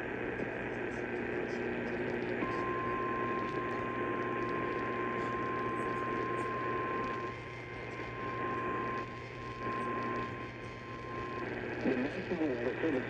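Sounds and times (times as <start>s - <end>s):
radio static and hum: 0.0s - 13.0s.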